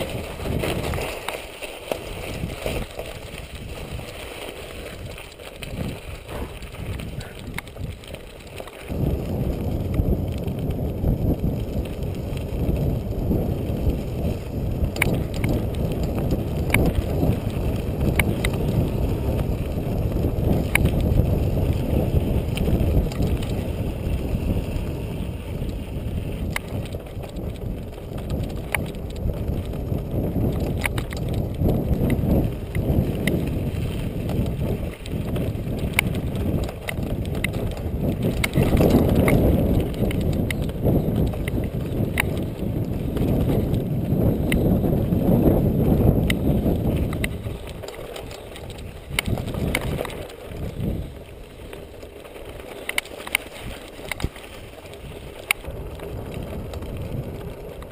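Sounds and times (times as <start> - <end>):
bike rattling: 0.0 - 57.9
wind and tyre rumble: 0.0 - 57.9.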